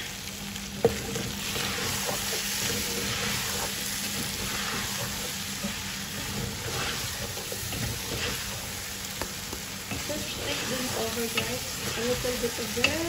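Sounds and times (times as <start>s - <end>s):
food sizzling in a pot: 0.0s - 13.0s
wooden spatula stirring: 0.8s - 13.0s.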